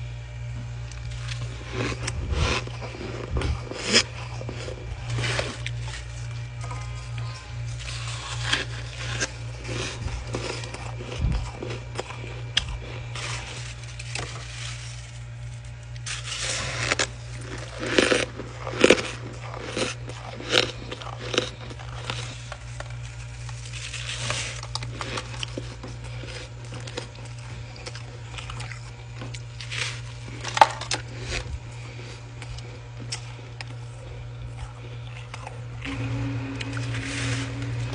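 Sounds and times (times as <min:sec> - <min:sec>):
ice crunching while chewed: 0:00.0 - 0:37.9
steady low hum: 0:00.0 - 0:37.9.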